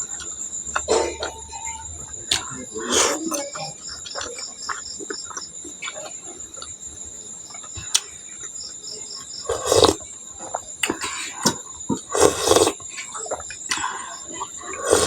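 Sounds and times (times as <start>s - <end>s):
person chewing: 0.0s - 6.8s, 9.4s - 15.0s.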